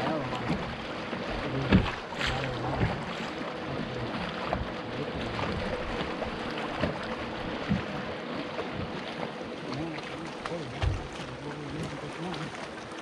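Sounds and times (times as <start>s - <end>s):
water lapping around boat: 0.0s - 13.0s.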